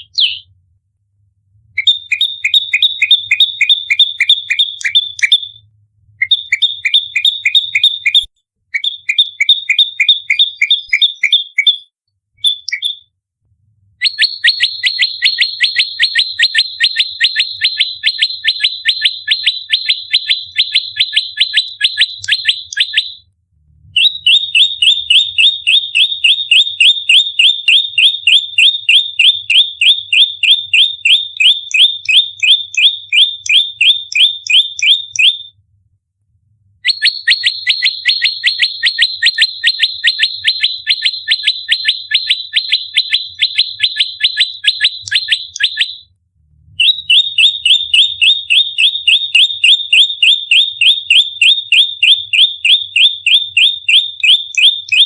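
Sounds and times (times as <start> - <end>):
bird chip notes song: 0.0 - 0.5, 1.8 - 5.6, 6.2 - 13.1, 14.0 - 23.2, 24.0 - 35.5, 36.8 - 46.1, 46.8 - 55.0.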